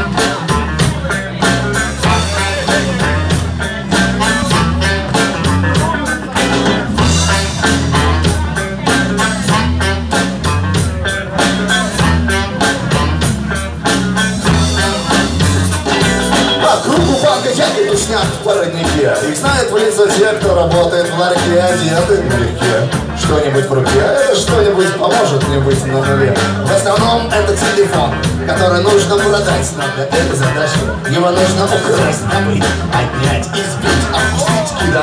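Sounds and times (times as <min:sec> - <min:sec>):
drums playing a steady beat: 0:00.0 - 0:35.0
electric guitar: 0:00.0 - 0:35.0.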